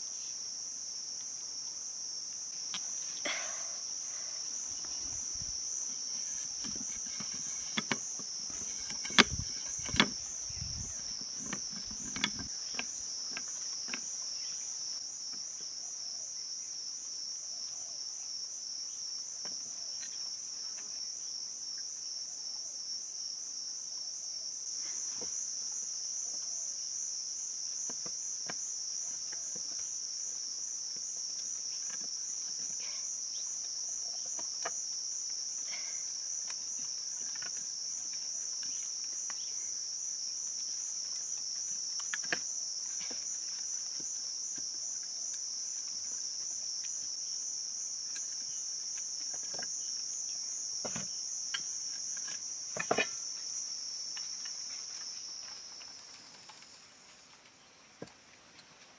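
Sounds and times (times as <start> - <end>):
insect chorus: 0.0 - 58.9.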